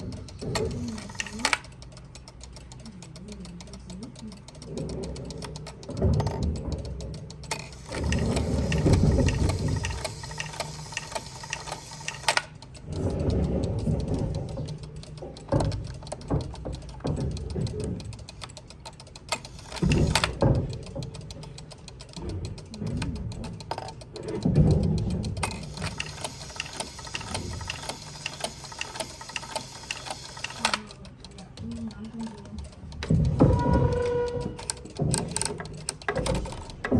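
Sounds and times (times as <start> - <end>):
clock mechanism clicking: 0.0 - 36.9
clockwork whirring and rattling: 0.0 - 36.9.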